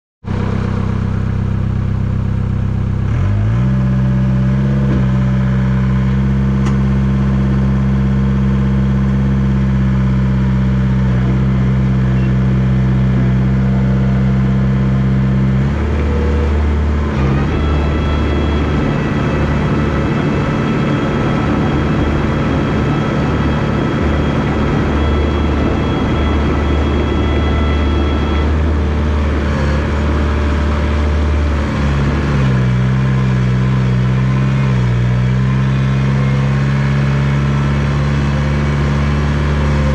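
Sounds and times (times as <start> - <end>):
bulldozer diesel engine running: 0.2 - 39.9.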